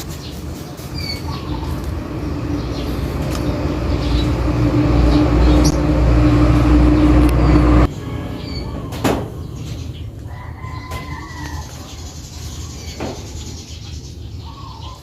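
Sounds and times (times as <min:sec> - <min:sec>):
motor engine rumbling: 0:00.0 - 0:14.5
bird chirps: 0:00.1 - 0:15.0.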